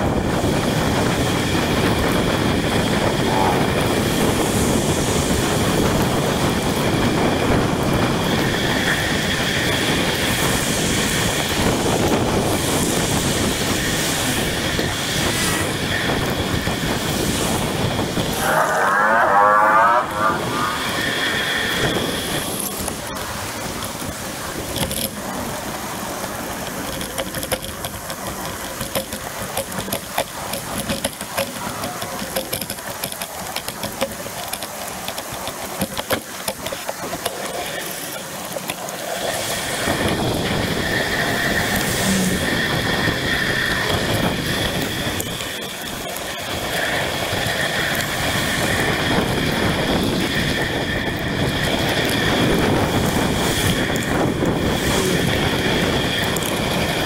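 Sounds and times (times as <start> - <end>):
bike clicks and rattles: 0.0 - 57.0
bike tyres hissing on wet pavement: 0.0 - 57.0
rushing traffic noise: 0.0 - 57.0.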